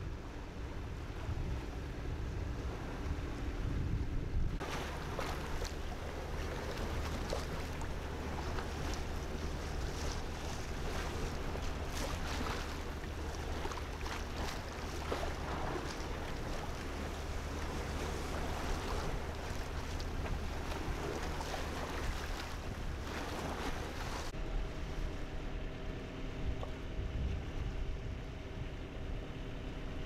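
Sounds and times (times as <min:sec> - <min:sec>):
wind on microphone: 0:00.0 - 0:24.4
boat engine humming: 0:00.0 - 0:30.0
water splashing along hull: 0:00.0 - 0:30.0.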